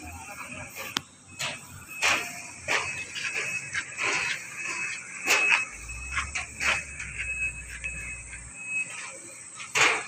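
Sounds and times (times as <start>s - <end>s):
boot footsteps on steel grating: 0.8s - 10.0s.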